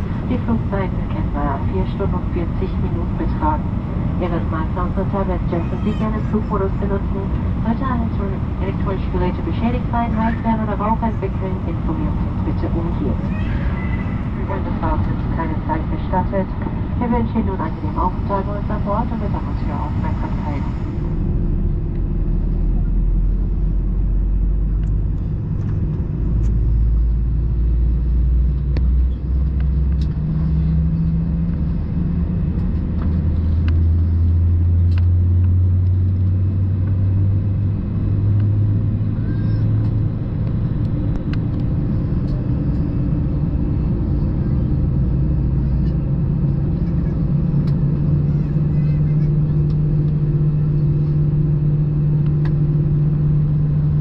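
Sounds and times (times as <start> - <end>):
low cabin drone: 0.0 - 54.0.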